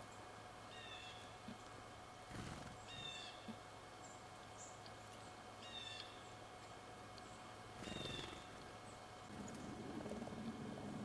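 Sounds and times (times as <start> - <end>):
small bird calling: 0.0 - 1.7, 2.3 - 6.5, 7.2 - 10.6
faint steady hum: 0.0 - 11.0.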